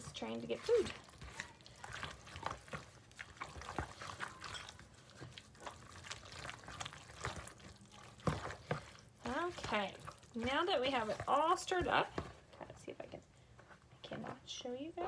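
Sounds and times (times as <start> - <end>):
utensil stirring thick sauce: 0.0 - 12.8.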